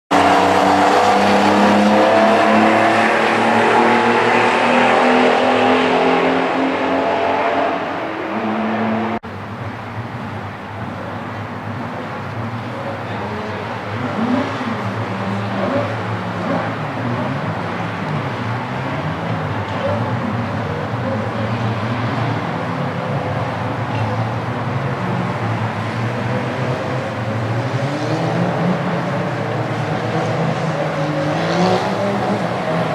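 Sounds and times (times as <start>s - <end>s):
sports car engine at high revs: 0.1s - 9.2s, 13.5s - 32.9s.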